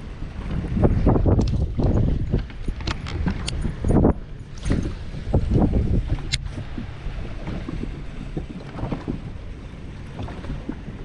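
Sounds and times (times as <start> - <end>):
waves slapping boat hull: 0.0 - 11.0
wind buffeting microphone: 0.0 - 11.0.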